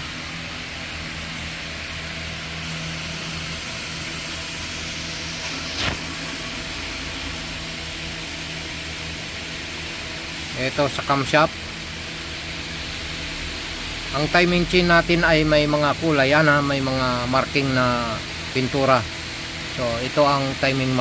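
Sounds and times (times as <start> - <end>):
mechanical hum with low drone: 0.0 - 21.0.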